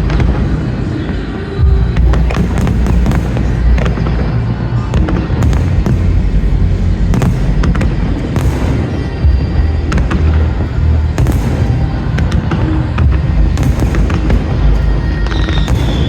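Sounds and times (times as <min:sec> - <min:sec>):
fireworks bursting: 0:00.0 - 0:16.0
low booming rumble: 0:00.0 - 0:16.0
music playing: 0:00.0 - 0:16.0.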